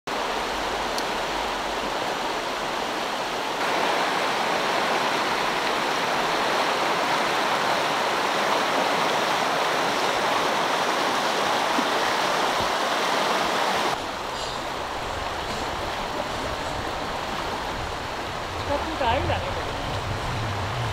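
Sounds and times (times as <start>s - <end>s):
stream rushing over rocks: 0.1s - 20.9s.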